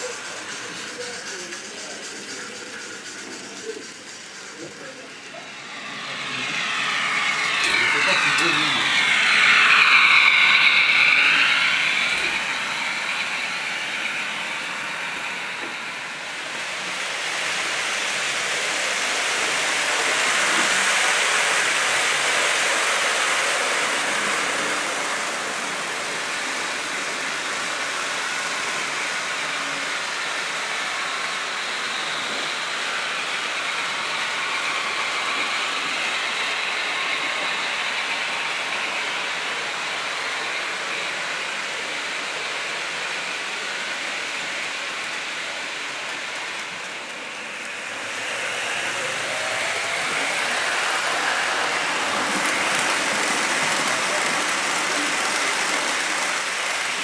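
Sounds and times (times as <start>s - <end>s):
model trains rolling hiss: 0.0s - 57.0s.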